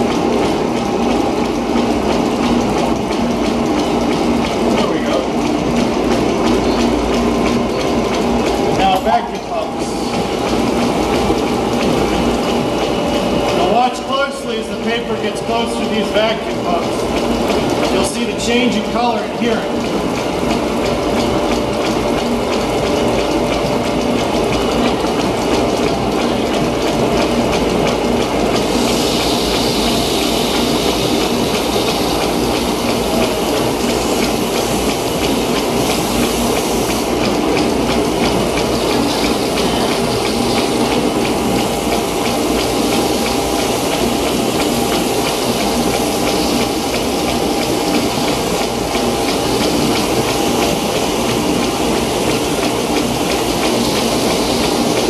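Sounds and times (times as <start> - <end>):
fast even machine clatter: 0.0 - 55.0
steady rush of water and pumps: 0.0 - 55.0.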